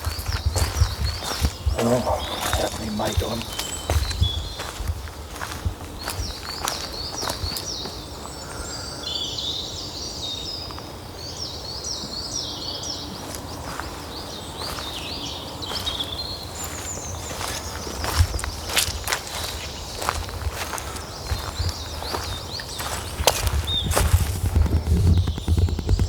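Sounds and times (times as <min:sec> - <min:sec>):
birds chirping: 0:00.0 - 0:26.0
outdoor background noise: 0:00.0 - 0:26.0.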